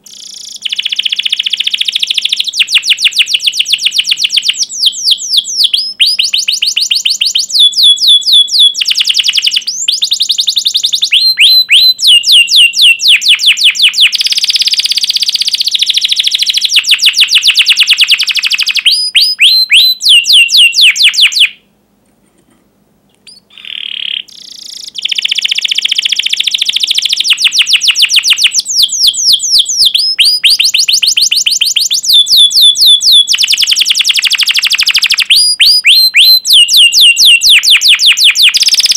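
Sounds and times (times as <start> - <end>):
canary singing: 0.0 - 21.7, 23.1 - 38.9.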